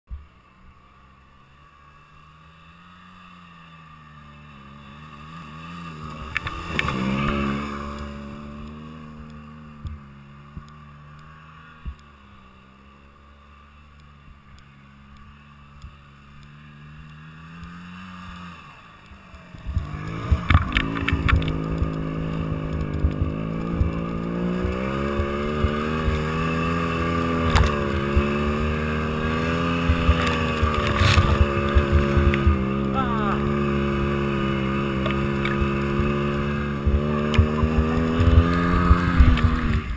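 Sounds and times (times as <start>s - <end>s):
snowmobile engine: 0.2s - 39.9s
second snowmobile passing close: 0.8s - 39.9s.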